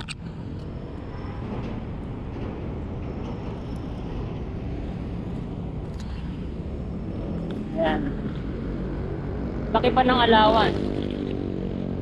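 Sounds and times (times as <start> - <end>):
vehicle road noise rumble: 0.0 - 12.0.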